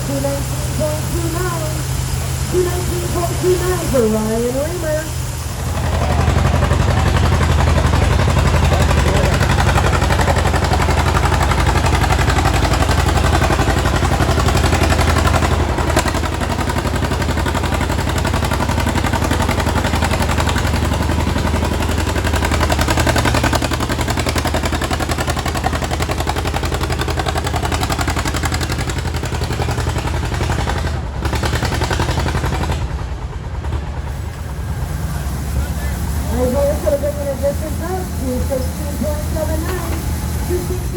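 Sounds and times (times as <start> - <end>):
tractor engine under full load: 0.0 - 40.9.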